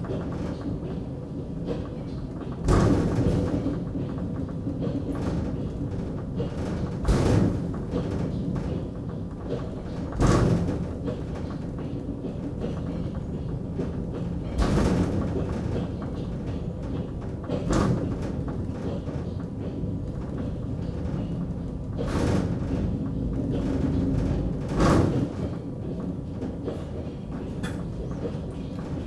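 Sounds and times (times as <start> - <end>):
suspension railway car rumble: 0.0 - 29.0.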